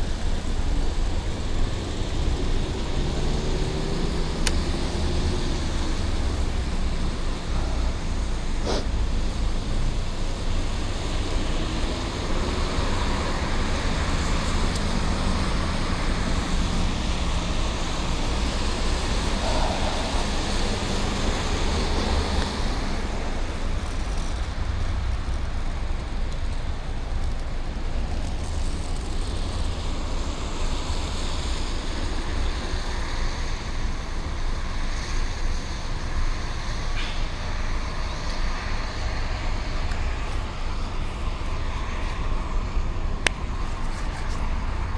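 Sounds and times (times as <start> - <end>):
city traffic rumble: 0.0 - 44.9
vehicle engine tone: 0.0 - 44.9.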